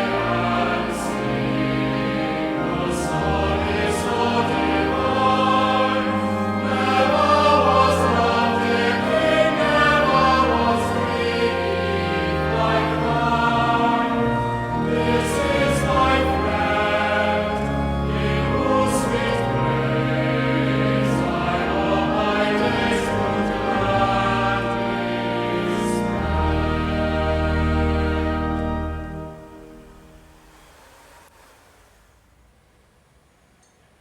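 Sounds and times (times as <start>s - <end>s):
choir singing sustained chords: 0.0s - 32.1s.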